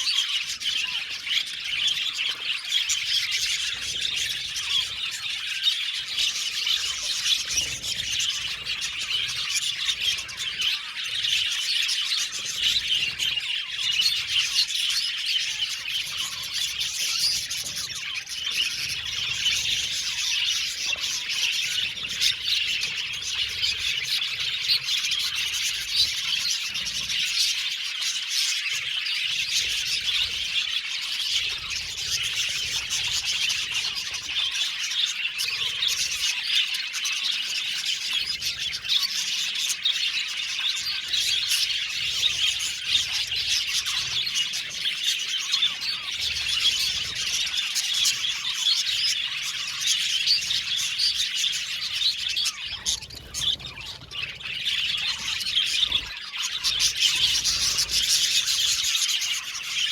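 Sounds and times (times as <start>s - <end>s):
flock of budgerigars chattering: 0.0s - 59.9s.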